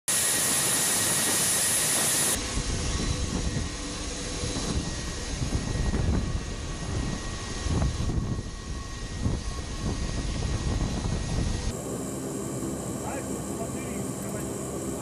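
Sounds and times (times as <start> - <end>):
turbine engines rushing and whining: 0.1 - 15.0.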